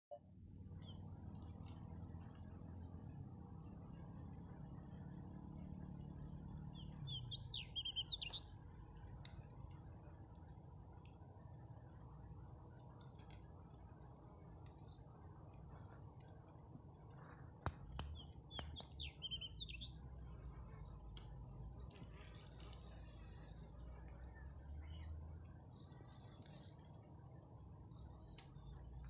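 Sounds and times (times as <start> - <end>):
low steady rumble: 0.1 - 29.0
small birds chirping: 0.2 - 29.0.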